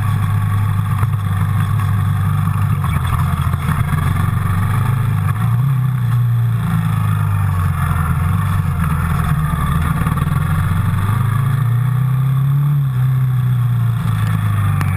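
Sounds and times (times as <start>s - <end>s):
quad bike engine running: 0.0s - 14.9s.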